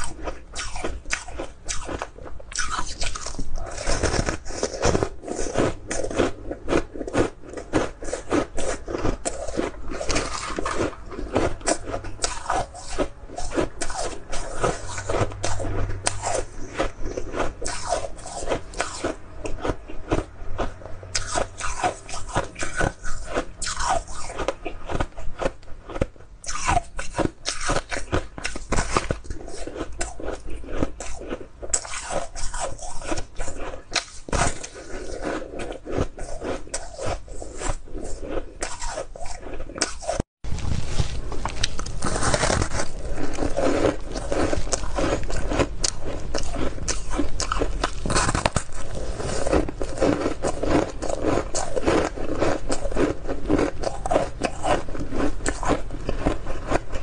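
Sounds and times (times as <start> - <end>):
crunching and chewing ice: 0.0 - 57.0.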